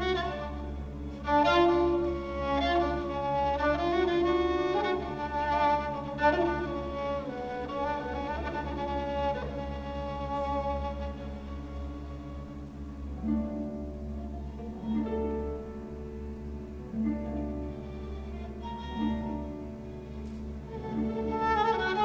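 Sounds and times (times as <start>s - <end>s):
bowed strings slow melody: 0.0s - 22.0s
sustained low drone: 0.0s - 22.0s.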